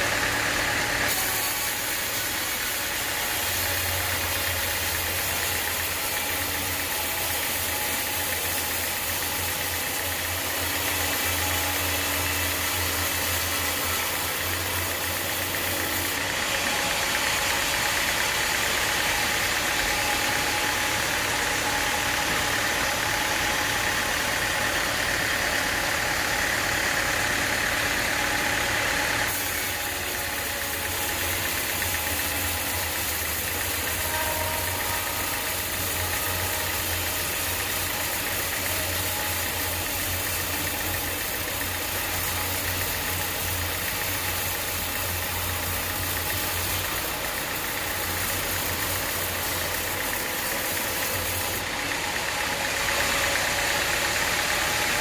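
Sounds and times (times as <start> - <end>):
saw blade cutting through log: 0.0 - 55.0
sawmill engine running: 0.0 - 55.0.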